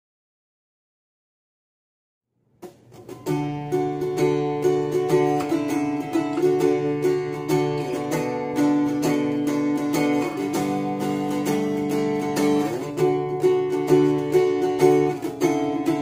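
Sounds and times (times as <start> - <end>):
acoustic guitar strummed chords: 2.6 - 16.0.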